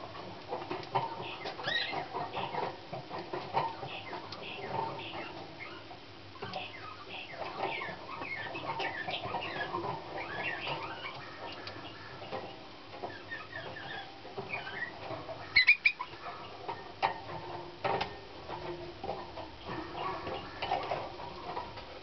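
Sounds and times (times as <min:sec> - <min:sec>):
canary singing: 0:00.6 - 0:21.8.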